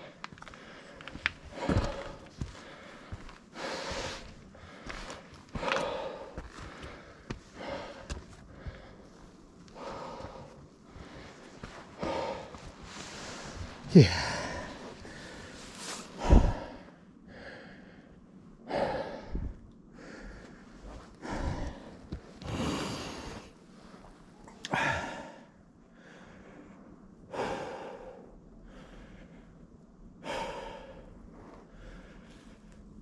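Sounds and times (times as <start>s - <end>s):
heavy breathing: 0.0s - 33.0s.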